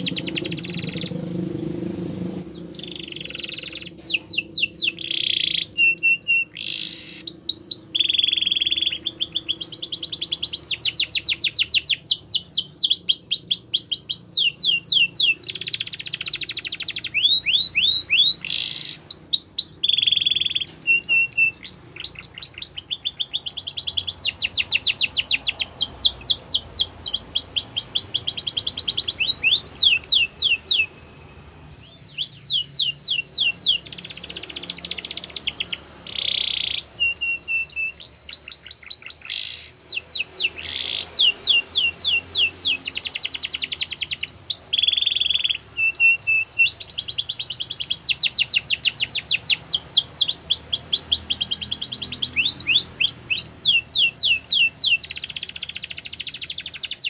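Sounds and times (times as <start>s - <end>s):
canary singing fast trills: 0.0s - 57.0s.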